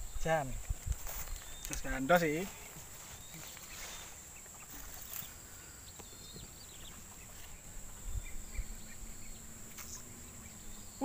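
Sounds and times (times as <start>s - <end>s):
faint bird chirps: 0.0s - 11.0s
high insect drone: 0.0s - 11.0s.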